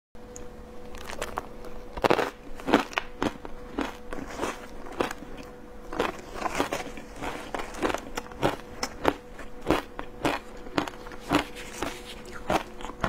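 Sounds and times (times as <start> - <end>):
faint steady hum: 0.2 - 13.0.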